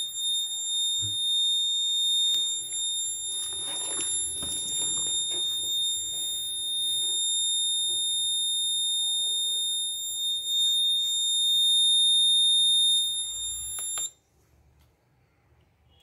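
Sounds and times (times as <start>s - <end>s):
piezo buzzer continuous high tone: 0.0s - 14.1s.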